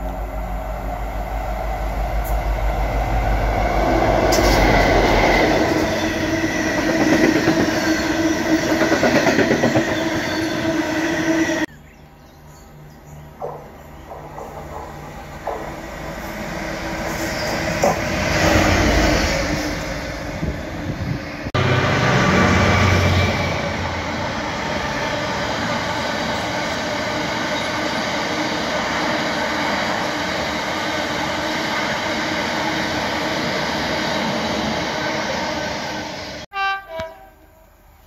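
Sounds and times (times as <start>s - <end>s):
train wheels on rails: 0.0s - 11.7s, 13.3s - 36.5s
diesel locomotive engine: 0.0s - 38.0s
freight train rumble: 0.0s - 38.0s.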